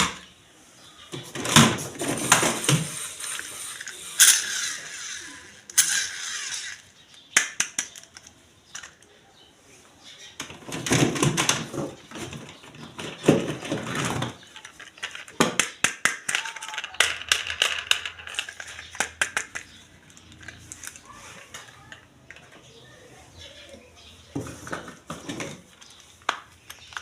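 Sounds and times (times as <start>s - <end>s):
plastic toys clicking and clattering: 1.1s - 9.2s, 10.4s - 23.6s, 24.3s - 27.0s.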